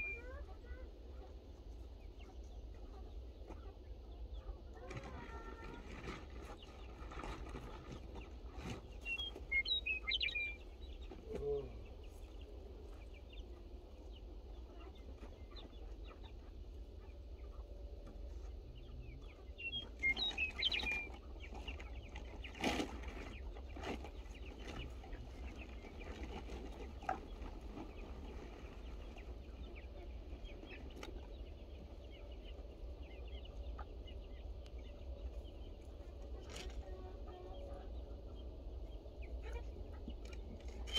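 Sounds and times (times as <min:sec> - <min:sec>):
chickens chirping: 0:00.0 - 0:40.9.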